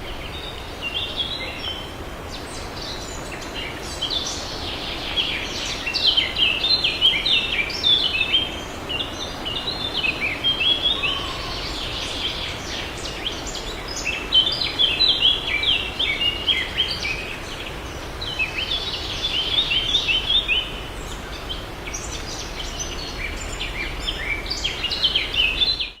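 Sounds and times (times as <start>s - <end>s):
birds chirping: 0.0s - 26.0s
steady background hiss: 0.0s - 26.0s.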